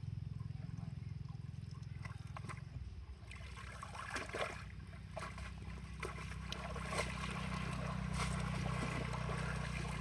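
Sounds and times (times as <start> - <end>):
steady low hum: 0.0 - 10.0
water sloshing and splashing: 1.3 - 10.0.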